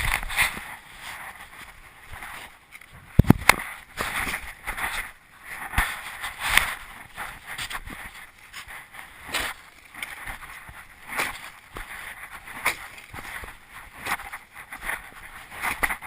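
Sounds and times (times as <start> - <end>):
rc truck tyre and chassis noise: 0.0 - 16.0.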